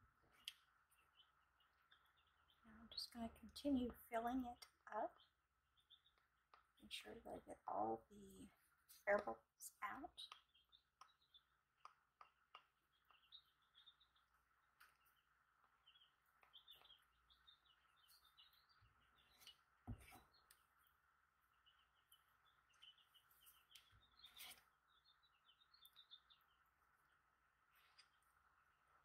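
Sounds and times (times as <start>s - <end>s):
small bird chirping: 0.1s - 29.0s.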